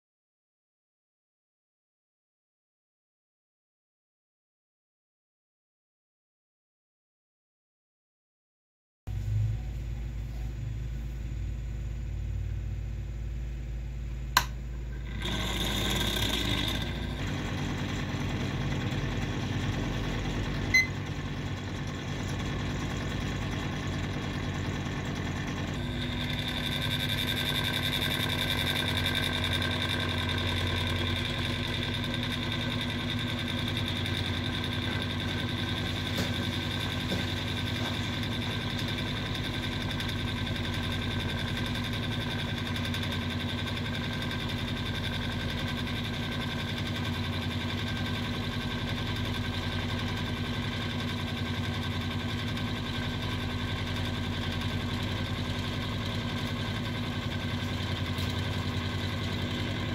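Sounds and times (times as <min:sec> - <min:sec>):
cotton candy machine motor hum: 0:09.1 - 0:59.9.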